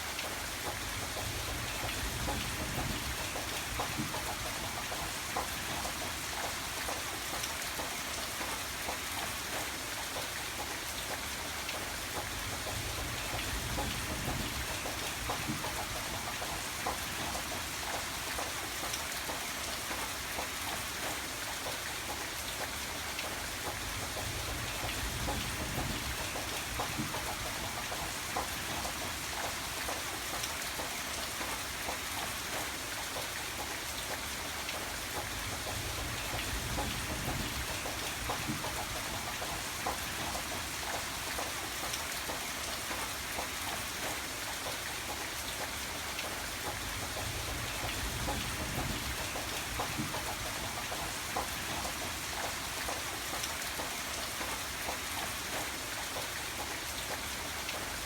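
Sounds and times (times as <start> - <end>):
rain drops hitting a surface: 0.0 - 58.0.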